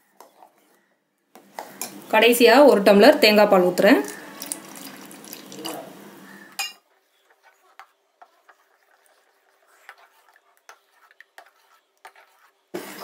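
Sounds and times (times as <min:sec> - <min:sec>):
spoon stirring thick porridge: 0:00.0 - 0:02.1, 0:04.0 - 0:13.0.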